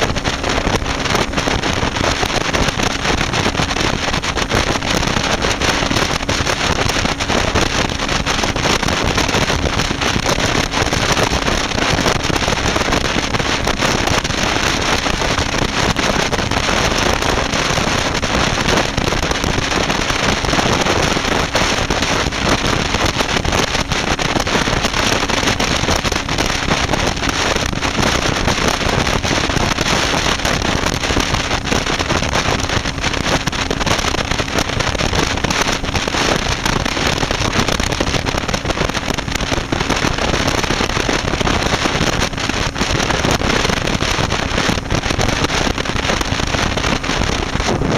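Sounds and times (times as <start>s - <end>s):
motorcycle engine and road noise: 0.0s - 47.9s
wind buffeting microphone: 0.0s - 47.9s.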